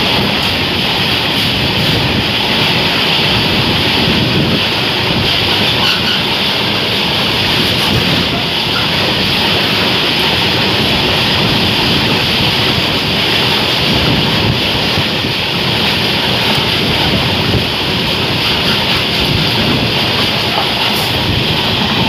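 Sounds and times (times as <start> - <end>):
freight train passing at speed: 0.0 - 22.0
wind buffeting microphone: 0.0 - 22.0.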